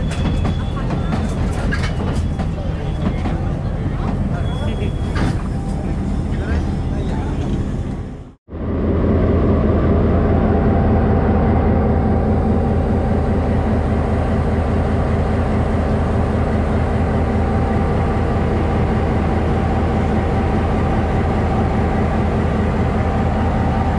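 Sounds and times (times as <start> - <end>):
diesel locomotive engine running: 0.0 - 23.9.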